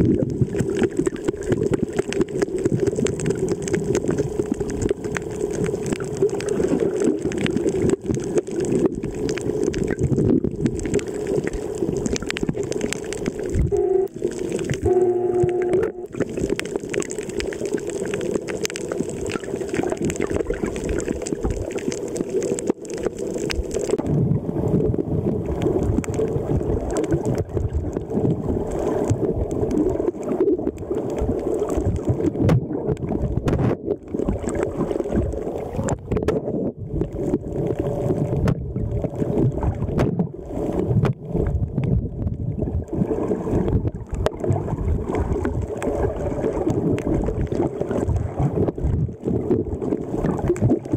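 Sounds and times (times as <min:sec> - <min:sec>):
bubbling: 0:00.0 - 0:50.9
muffled underwater churning: 0:00.0 - 0:50.9
underwater clicks: 0:00.0 - 0:50.9.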